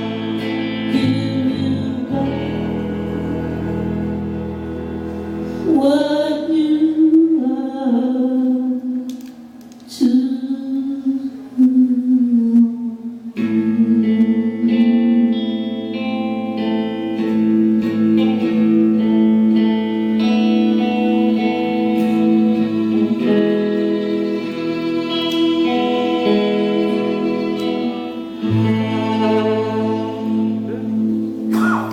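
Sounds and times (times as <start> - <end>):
guitar chords: 0.0 - 9.0, 13.2 - 31.9.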